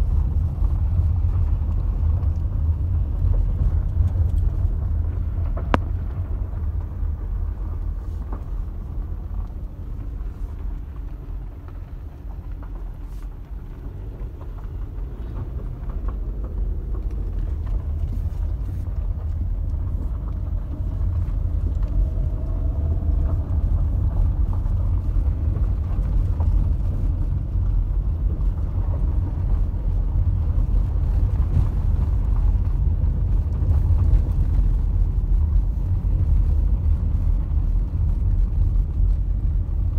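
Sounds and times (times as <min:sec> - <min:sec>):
car road noise on gravel: 0:00.0 - 0:39.9.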